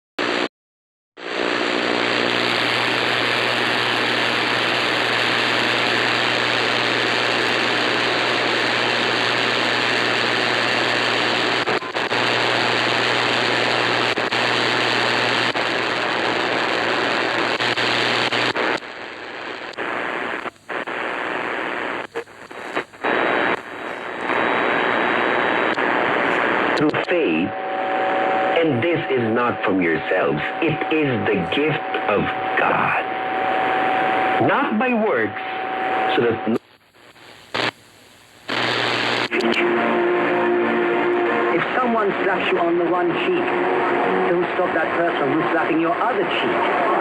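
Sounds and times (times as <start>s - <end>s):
radio static hiss: 1.2s - 47.0s.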